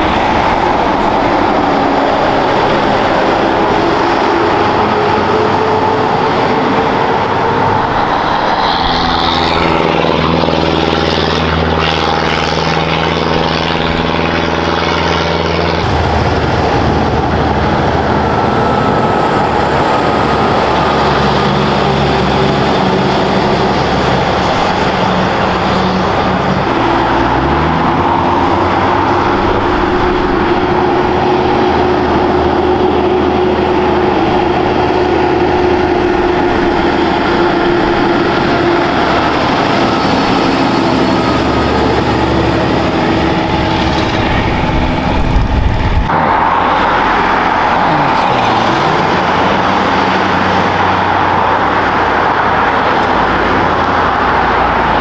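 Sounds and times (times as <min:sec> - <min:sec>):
diesel trucks passing: 0:00.0 - 0:55.0
truck engine revving: 0:00.0 - 0:55.0.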